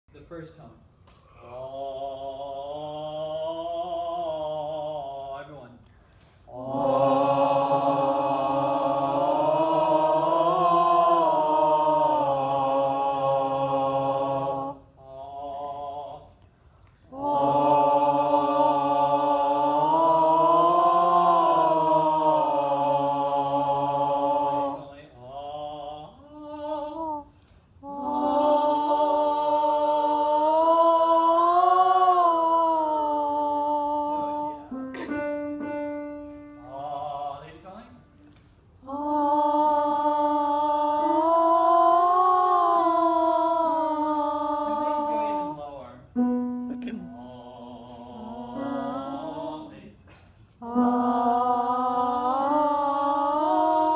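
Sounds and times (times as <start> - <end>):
group of voices singing: 1.4 - 5.6, 6.5 - 35.4, 36.0 - 37.7, 38.8 - 53.9.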